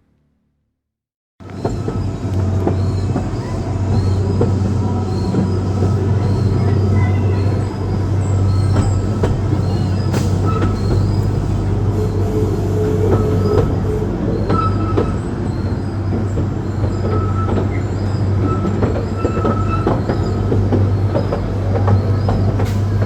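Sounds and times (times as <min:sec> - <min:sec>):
ride rumbling on track: 0:01.4 - 0:23.0
wheels squealing and clicking: 0:01.4 - 0:23.0.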